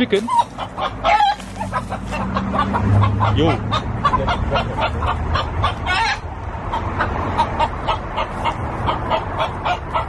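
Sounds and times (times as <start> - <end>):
chicken squawk: 0.0 - 10.0
chickens clucking: 0.0 - 10.0.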